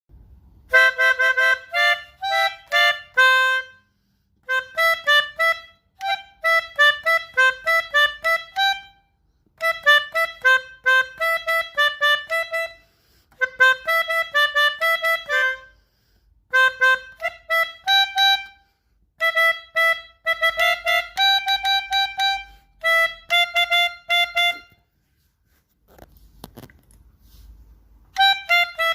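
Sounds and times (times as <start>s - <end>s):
melodica melody: 0.5s - 15.8s, 16.4s - 26.1s, 27.4s - 28.9s.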